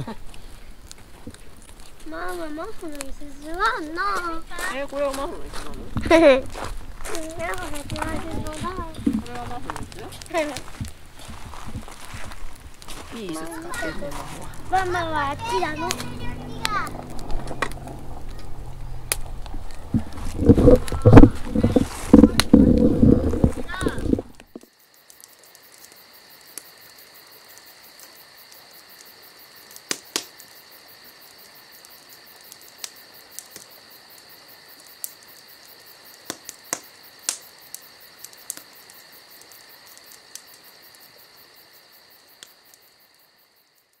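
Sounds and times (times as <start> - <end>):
campfire popping and crackling: 0.0 - 43.4
insects chirping: 0.0 - 44.0.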